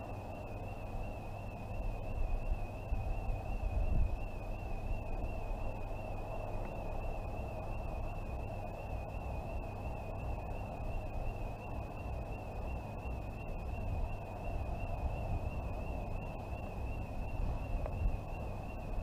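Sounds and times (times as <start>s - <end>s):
distant warbling intruder alarm: 0.0s - 19.0s.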